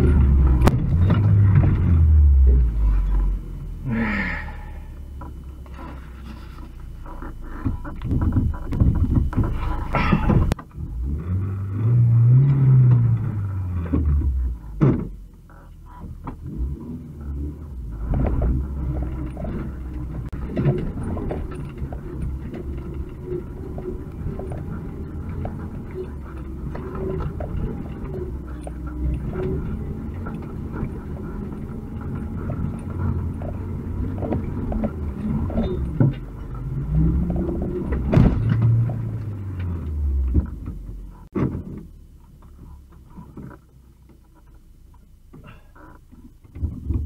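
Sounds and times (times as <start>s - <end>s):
van body rattling: 0.0s - 4.5s, 5.2s - 11.4s, 12.2s - 47.0s
van engine running: 0.0s - 47.0s.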